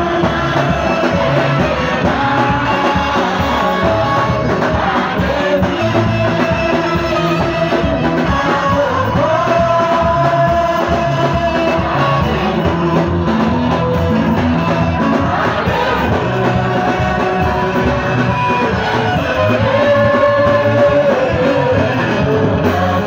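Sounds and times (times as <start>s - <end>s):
guitar: 0.0s - 23.0s
loud dance music: 0.0s - 23.0s
person singing: 0.0s - 23.0s.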